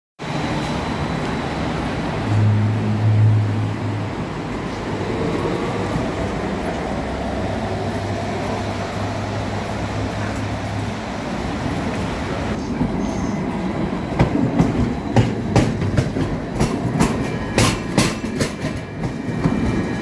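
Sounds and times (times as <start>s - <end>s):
tram passing: 0.2s - 20.0s.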